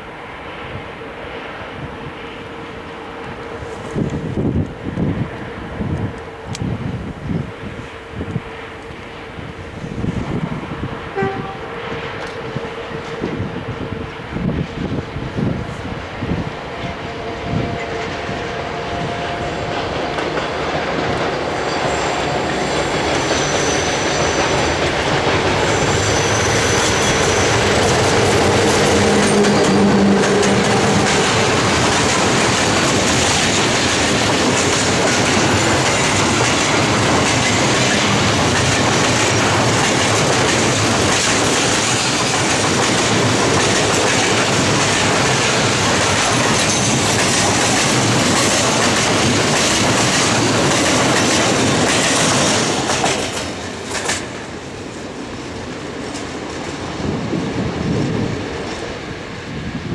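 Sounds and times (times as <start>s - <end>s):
locomotive hum: 0.0s - 59.9s
train wheels rumbling on rails: 0.0s - 59.9s.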